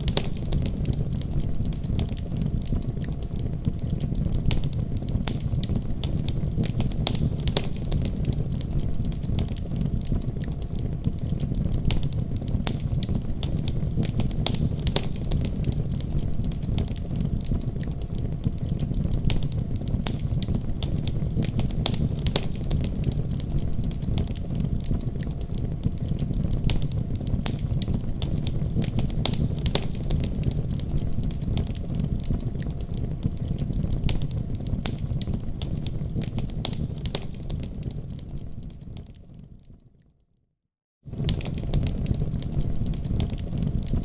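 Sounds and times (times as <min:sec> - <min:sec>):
fire crackling and popping: 0:00.0 - 0:40.1, 0:41.1 - 0:44.0.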